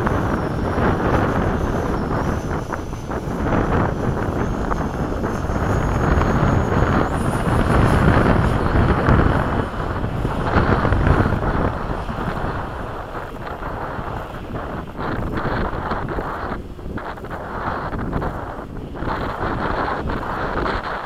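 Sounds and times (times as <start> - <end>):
model jet fan whine: 0.0 - 21.0
wind buffeting microphone: 0.0 - 21.0.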